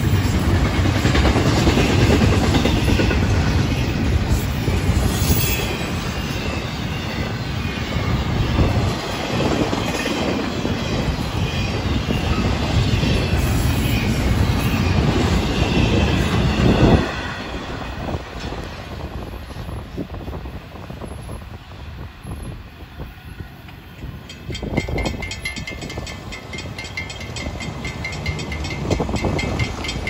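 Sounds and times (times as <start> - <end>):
train wheels clattering on rail: 0.0 - 21.5, 23.6 - 30.0.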